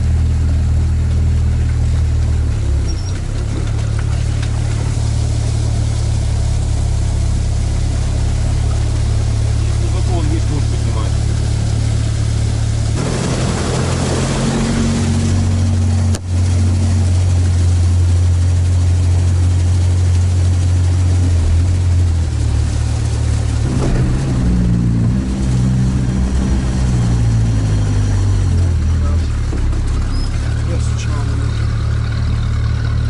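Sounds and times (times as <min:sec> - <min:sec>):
vehicle engine deep drone: 0:00.0 - 0:33.0.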